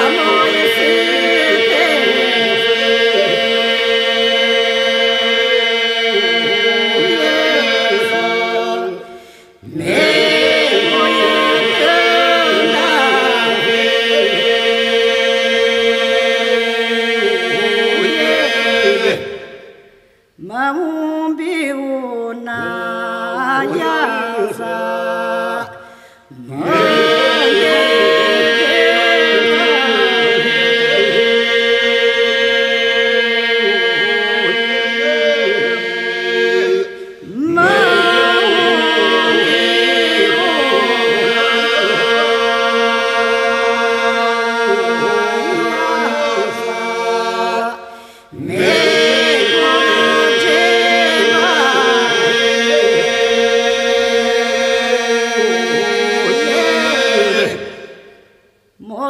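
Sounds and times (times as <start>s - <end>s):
held vocal drone: 0.0s - 21.5s, 22.3s - 58.3s
group singing unaccompanied: 0.0s - 59.0s.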